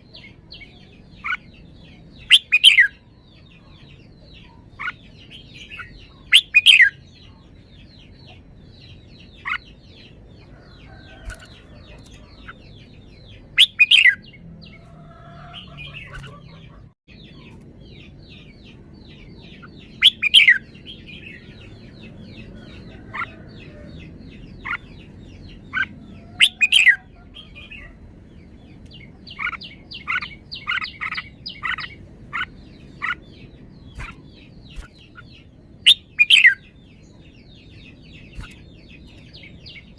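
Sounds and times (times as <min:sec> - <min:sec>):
bulbul singing: 0:00.0 - 0:39.9
faint bird chirping: 0:00.0 - 0:39.9.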